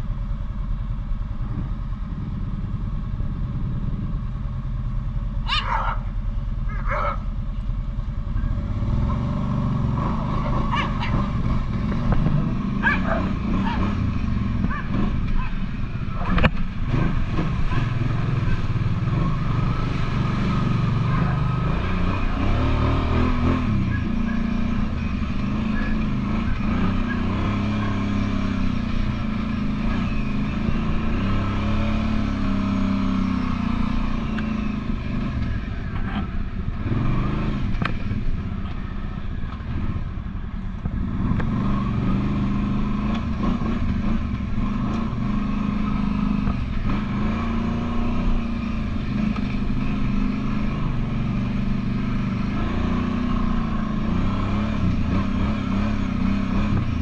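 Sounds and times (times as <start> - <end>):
atv engine revving: 8.2 - 40.2, 40.8 - 57.0.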